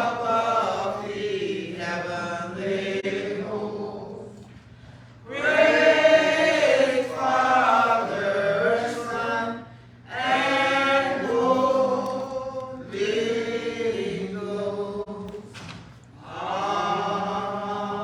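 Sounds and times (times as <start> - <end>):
church choir singing a hymn: 0.0 - 4.5, 5.2 - 18.0.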